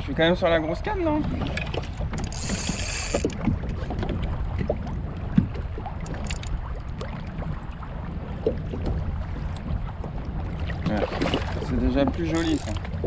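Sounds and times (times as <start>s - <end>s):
low water rumble: 0.0s - 13.0s
small water splashes: 1.0s - 13.0s.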